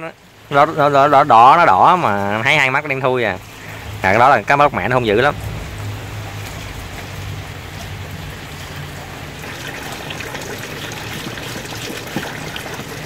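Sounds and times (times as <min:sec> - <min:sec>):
low steady hum: 0:00.0 - 0:13.0
steady rain falling: 0:00.0 - 0:13.0.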